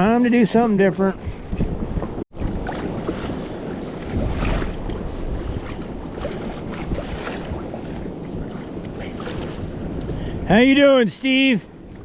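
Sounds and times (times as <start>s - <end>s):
wind buffeting microphone: 0.0s - 12.0s
water lapping against kayak hull: 1.1s - 12.0s.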